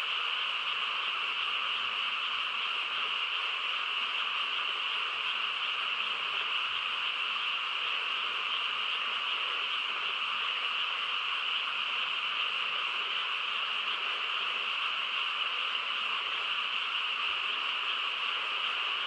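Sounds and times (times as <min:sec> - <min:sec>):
frogs chorus: 0:00.1 - 0:19.0.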